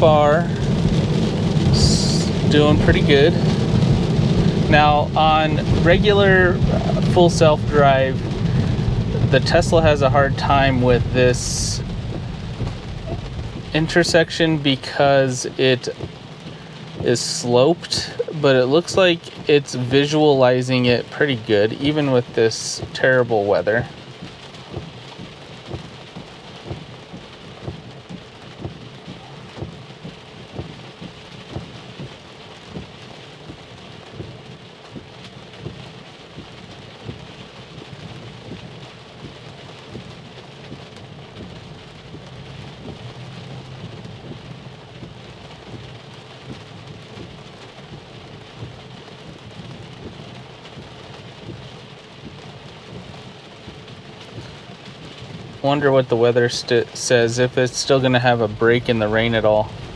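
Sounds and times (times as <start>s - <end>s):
heavy rain on car roof: 0.0s - 59.9s
moving car rumble: 0.0s - 59.9s.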